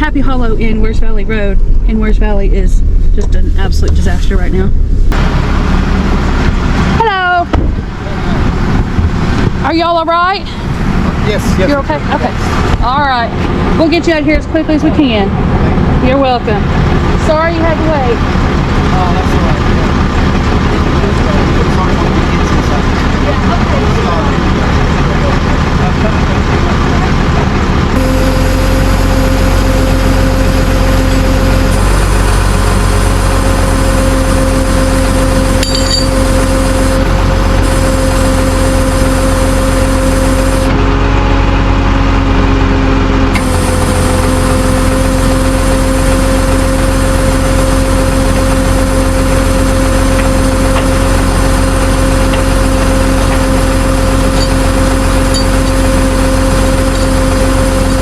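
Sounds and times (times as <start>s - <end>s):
diesel truck engine rumbling: 0.0s - 58.0s
engine whine: 0.0s - 58.0s.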